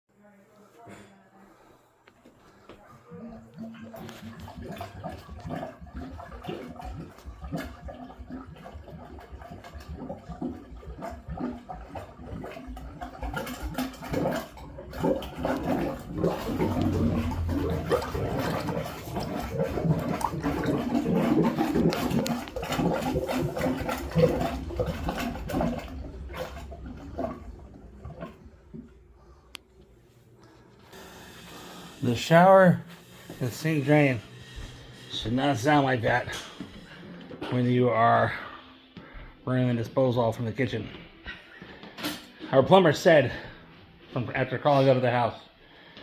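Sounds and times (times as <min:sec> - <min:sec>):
drains gurgling and bubbling: 0:02.5 - 0:43.6.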